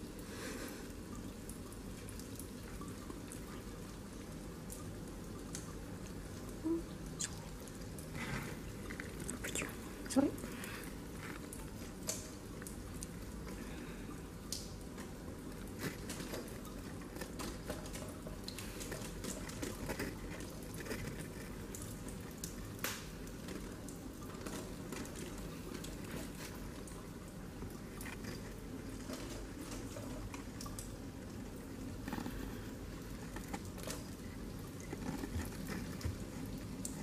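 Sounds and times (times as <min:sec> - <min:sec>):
small splashes and ticks: 0:00.0 - 0:37.0.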